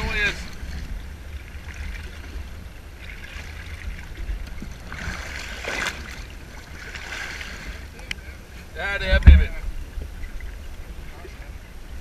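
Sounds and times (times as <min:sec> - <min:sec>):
water splashing against boat hull: 0:00.0 - 0:08.2, 0:09.0 - 0:11.4
steady low rumble: 0:00.0 - 0:12.0.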